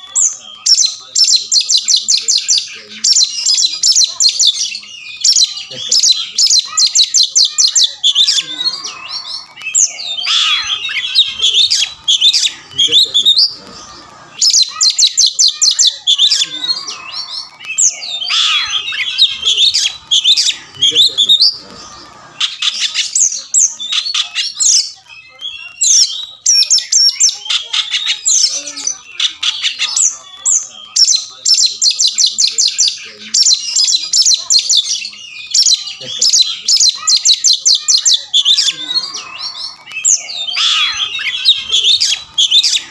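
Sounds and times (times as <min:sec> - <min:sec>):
bird singing whistles and raspy notes: 0:00.0 - 0:42.9.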